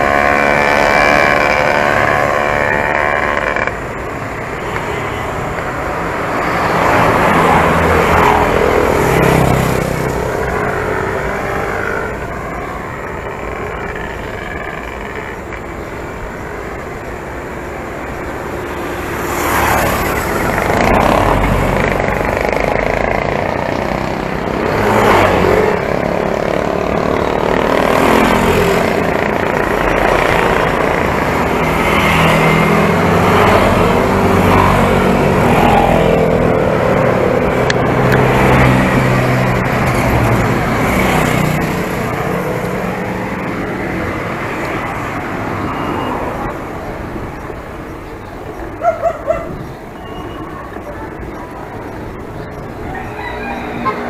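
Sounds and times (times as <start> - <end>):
passing motor traffic: 0.0 - 54.0
wind and road noise: 0.0 - 54.0.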